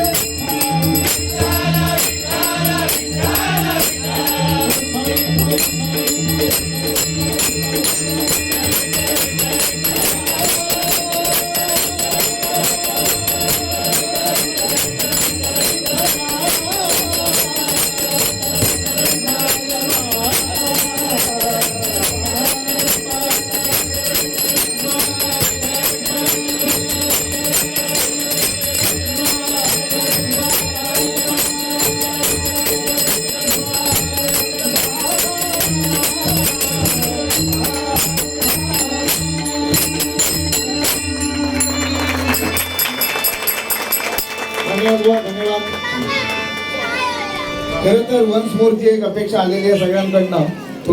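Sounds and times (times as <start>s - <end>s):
hand cymbals clashing: 0.0s - 44.6s
sustained melody: 0.0s - 48.9s.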